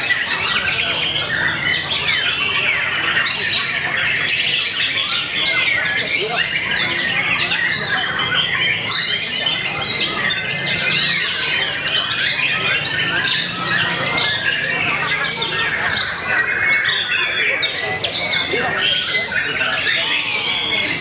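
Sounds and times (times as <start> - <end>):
many birds singing: 0.0 - 21.0.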